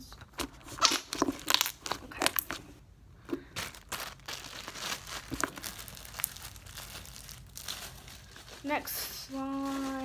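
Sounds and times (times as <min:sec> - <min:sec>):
slime popping and crackling: 0:00.6 - 0:02.7, 0:03.6 - 0:10.0.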